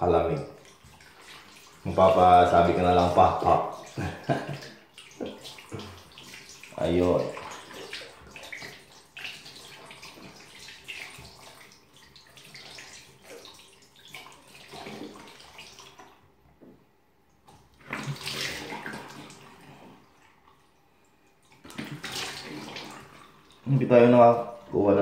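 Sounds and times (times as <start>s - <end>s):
hands splashing water in a basin: 0.4s - 16.2s, 17.4s - 20.6s, 21.4s - 23.8s.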